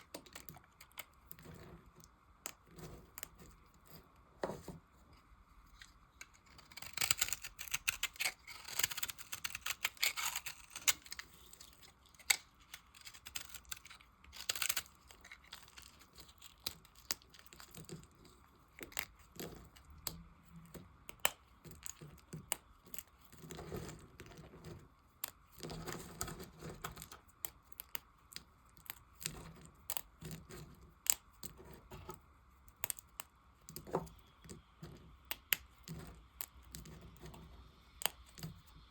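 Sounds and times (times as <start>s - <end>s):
knife scraping soap: 0.0s - 38.8s.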